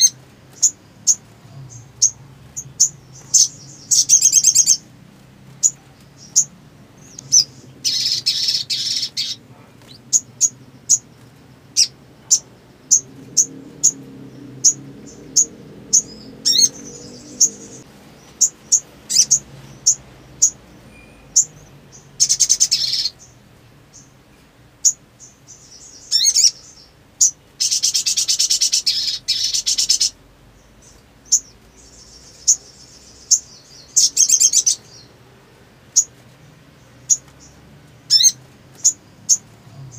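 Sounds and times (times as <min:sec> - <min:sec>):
buzzy bird trills: 0:00.0 - 0:24.2, 0:24.8 - 0:35.1, 0:36.8 - 0:39.9
bird chirping: 0:00.0 - 0:39.9.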